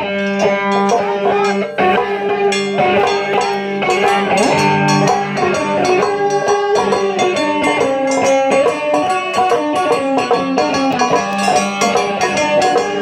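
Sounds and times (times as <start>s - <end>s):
drum hits: 0.0s - 13.0s
shamisen plucked notes: 0.0s - 13.0s.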